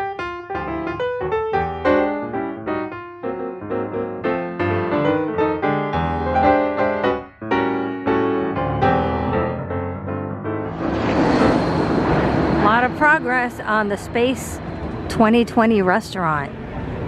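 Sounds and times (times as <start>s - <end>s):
piano music: 0.0s - 15.5s.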